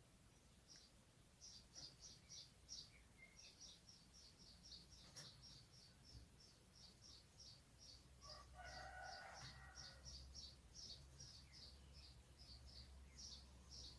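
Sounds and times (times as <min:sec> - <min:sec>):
small bird chirping: 0:00.3 - 0:13.9.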